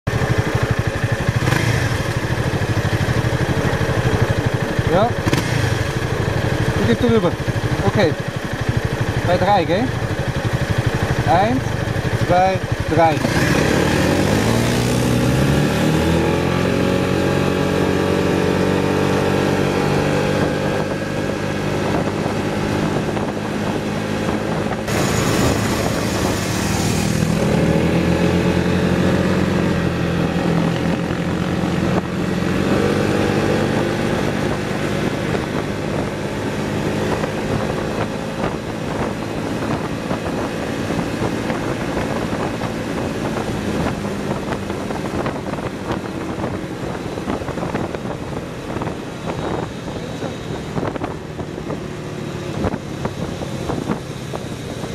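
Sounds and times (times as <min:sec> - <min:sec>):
scooter engine accelerating: 0:00.1 - 0:54.9
wind rushing over microphone: 0:01.3 - 0:54.9.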